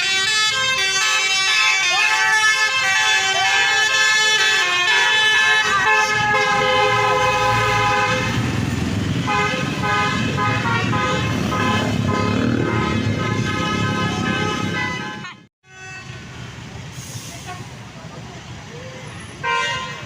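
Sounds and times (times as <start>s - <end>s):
multi-tone bus horn melody: 0.0s - 16.3s, 19.4s - 20.0s
bus engine rumble: 0.0s - 20.0s.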